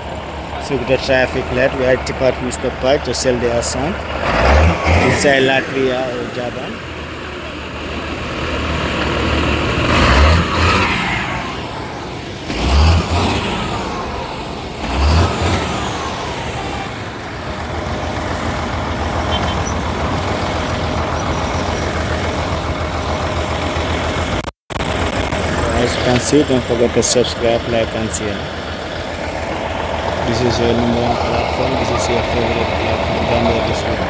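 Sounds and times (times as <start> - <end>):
truck diesel engine revving: 0.0 - 34.0.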